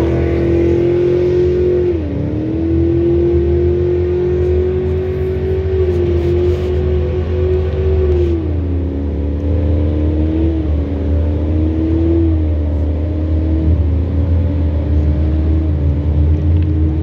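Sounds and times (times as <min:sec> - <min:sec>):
jet boat engine running hard: 0:00.0 - 0:17.0.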